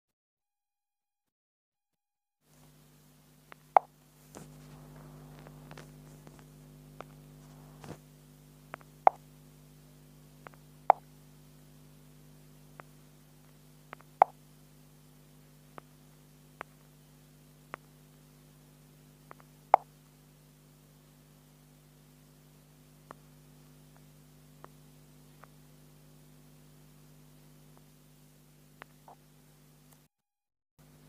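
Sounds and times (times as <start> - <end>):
steady low hum: 2.5 - 30.1.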